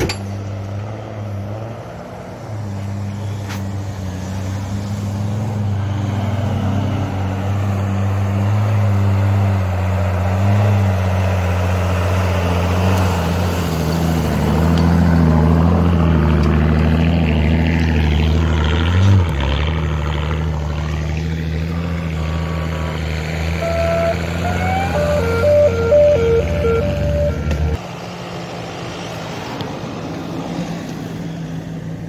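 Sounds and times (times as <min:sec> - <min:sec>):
off-road vehicle engines rumbling: 0:00.0 - 0:32.0.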